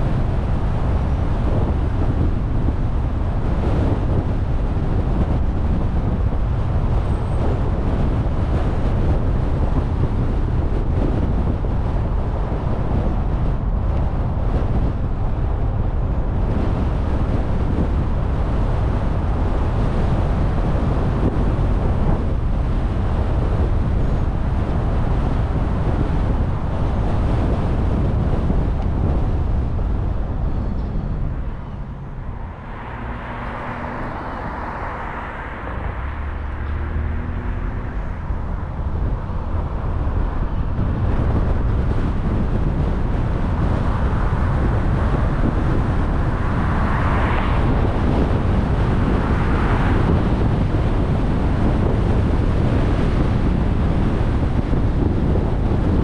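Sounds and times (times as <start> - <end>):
road and tyre noise: 0.0 - 56.0
wind rush: 0.0 - 56.0.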